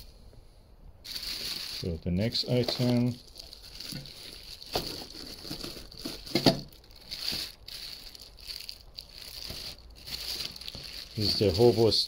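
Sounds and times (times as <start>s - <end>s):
plastic wrapping crinkling: 1.0s - 12.0s.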